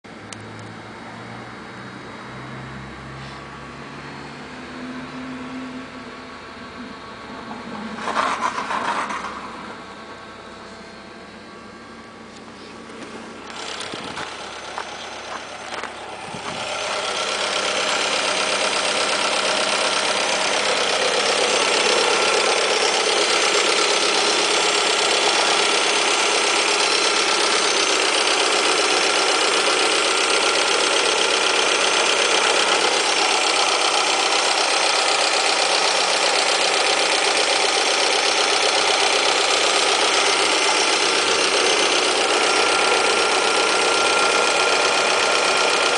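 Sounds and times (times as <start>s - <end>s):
car engine idling: 5.8s - 45.9s.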